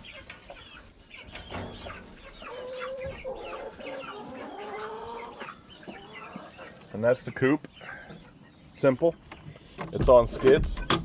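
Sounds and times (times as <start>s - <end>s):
chickens clucking: 0.0s - 10.8s.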